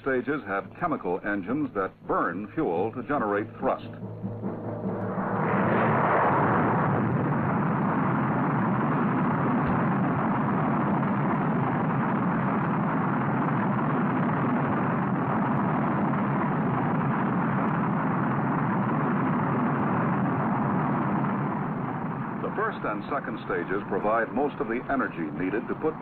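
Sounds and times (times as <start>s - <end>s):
rocket engines rumbling: 0.0s - 26.0s.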